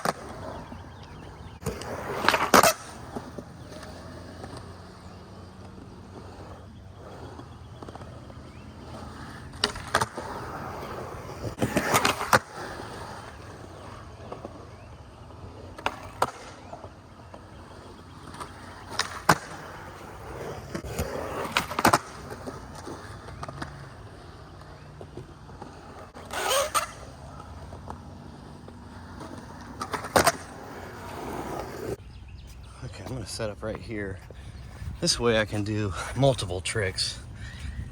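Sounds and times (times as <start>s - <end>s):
skateboard clacking on ground: 0.0s - 32.0s
skateboard rolling: 0.0s - 37.9s
skateboard scraping: 0.0s - 37.9s.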